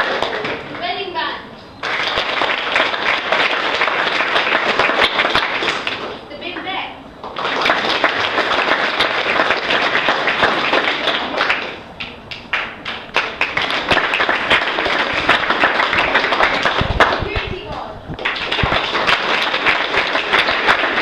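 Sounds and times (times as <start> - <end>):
audience applauding: 0.0 - 1.0, 1.8 - 6.2, 7.2 - 21.0.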